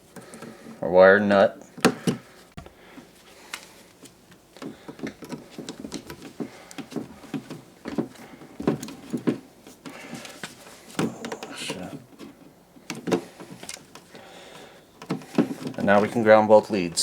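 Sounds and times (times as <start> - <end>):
small clicks and rustles of wires: 1.6 - 17.0.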